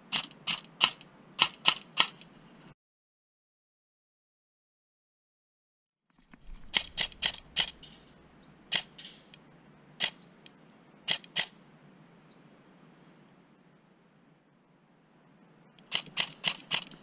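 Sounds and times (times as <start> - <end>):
faint steady hiss: 0.0 - 2.8, 6.1 - 17.0.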